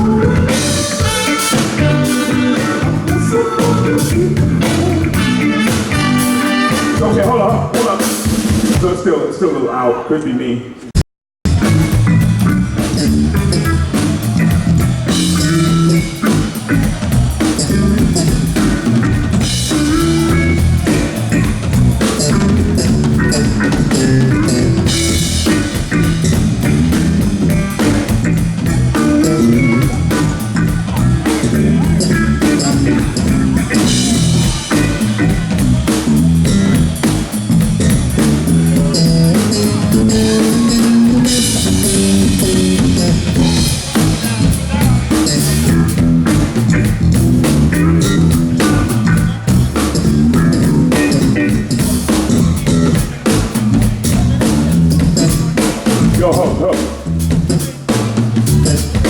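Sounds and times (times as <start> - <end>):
bass line: 0.0 - 9.0, 11.4 - 59.0
funk band playing: 0.0 - 9.0, 11.4 - 59.0
drum kit: 0.0 - 9.1, 11.4 - 59.0.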